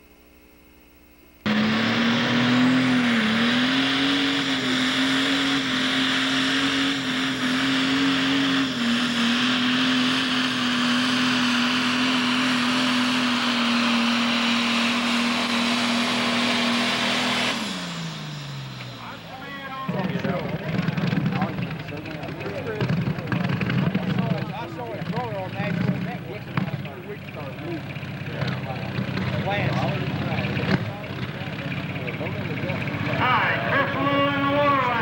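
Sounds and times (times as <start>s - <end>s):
diesel tractor engine running flat out: 1.4s - 35.0s
exhaust and turbo rush: 1.4s - 35.0s.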